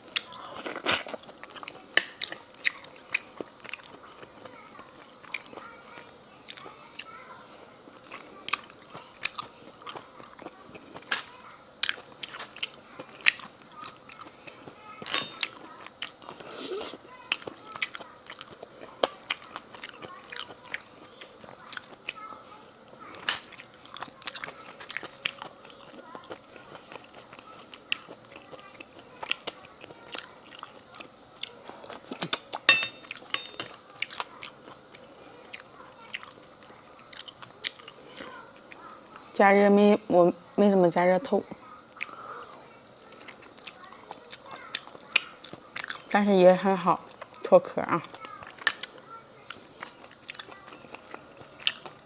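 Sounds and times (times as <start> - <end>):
person chewing: 0.0 - 7.2, 7.9 - 22.3, 23.1 - 39.2, 41.9 - 46.1, 47.0 - 52.0.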